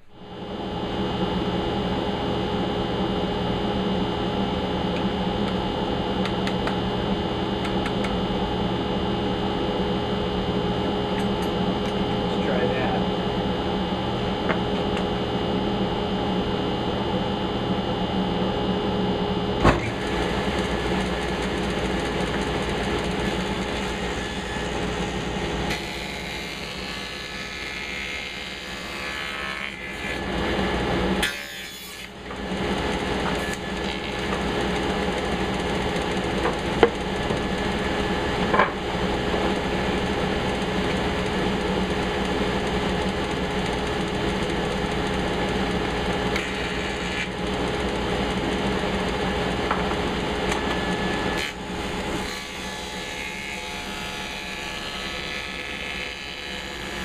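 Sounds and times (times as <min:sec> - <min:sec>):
woodworking machine running: 0:00.0 - 0:57.0.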